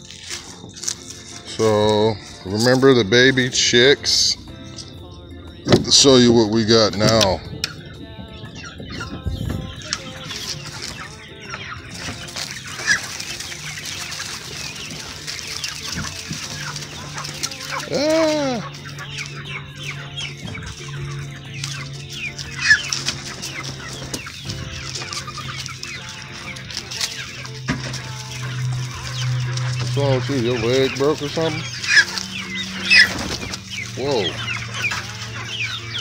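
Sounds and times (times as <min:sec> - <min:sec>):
chickens clucking: 0:00.0 - 0:36.0
chicken call: 0:07.0 - 0:36.0.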